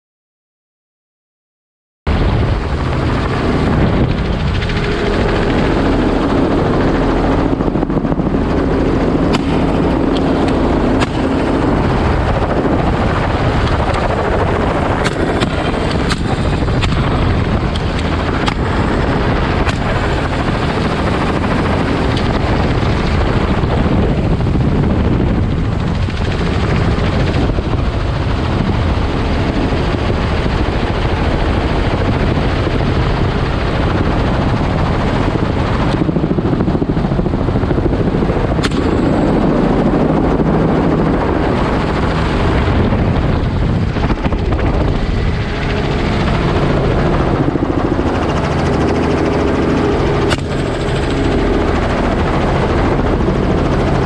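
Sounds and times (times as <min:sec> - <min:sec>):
rushing air: 0:02.1 - 0:33.2, 0:33.9 - 0:54.0
helicopter rotor and engine drone: 0:02.1 - 0:54.0.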